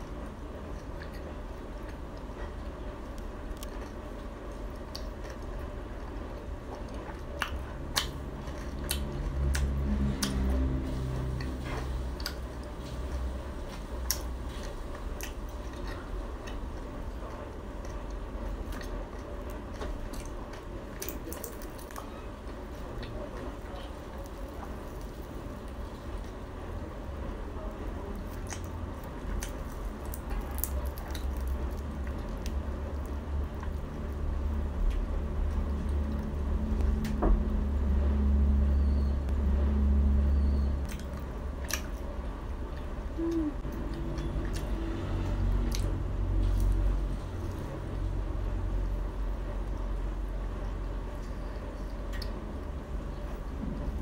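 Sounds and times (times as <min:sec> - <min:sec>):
chewing crispy fried cakes: 0:00.0 - 0:38.7, 0:39.3 - 0:54.0
steady low hum: 0:00.0 - 0:54.0.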